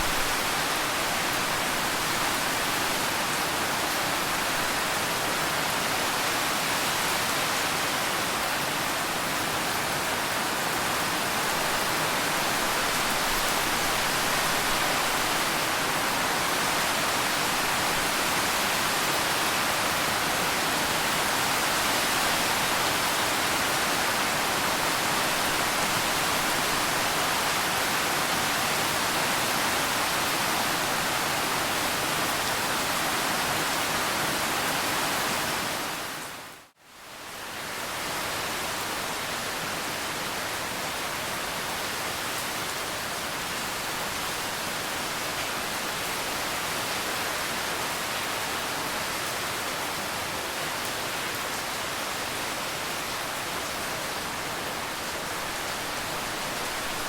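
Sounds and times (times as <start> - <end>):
dense rain hiss: 0.0 - 57.0.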